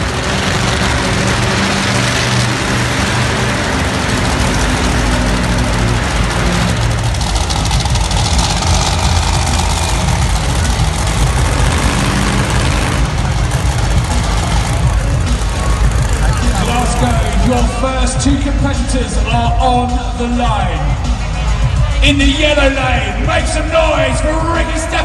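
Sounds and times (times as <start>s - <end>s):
monster truck engines running: 0.0s - 25.0s.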